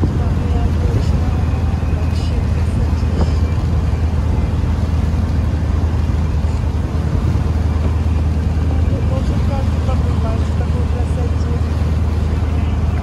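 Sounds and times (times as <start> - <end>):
motorboat engine droning: 0.0 - 13.0
water rushing past: 0.0 - 13.0.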